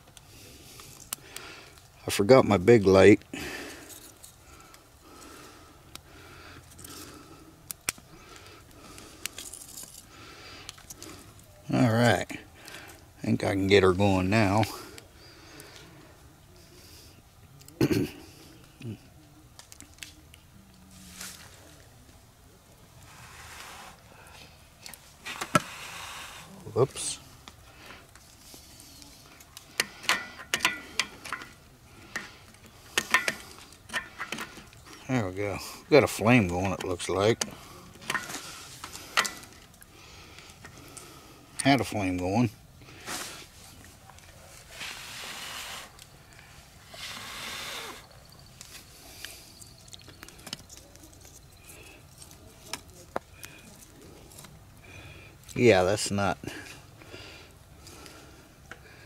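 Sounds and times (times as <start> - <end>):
kindling fire clicks and snaps: 0.0 - 2.1, 2.7 - 11.7, 12.5 - 13.2, 14.6 - 16.3, 17.1 - 55.8, 56.6 - 58.9.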